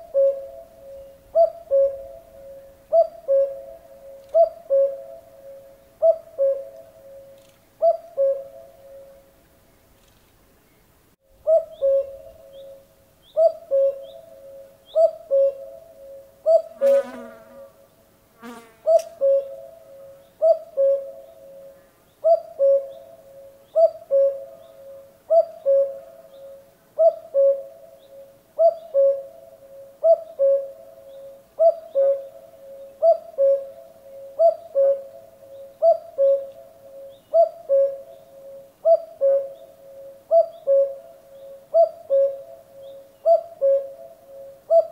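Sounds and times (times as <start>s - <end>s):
cuckoo calling: 0.0s - 9.3s, 11.4s - 16.8s, 18.8s - 44.9s.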